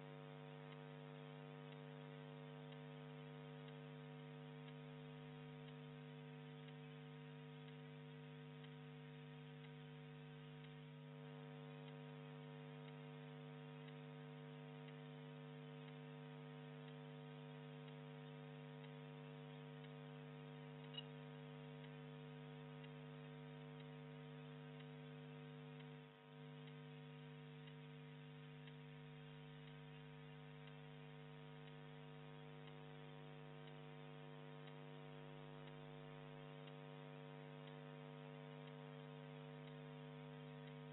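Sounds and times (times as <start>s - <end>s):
faint electrical hum: 0.0s - 40.9s
low hiss: 0.0s - 40.9s.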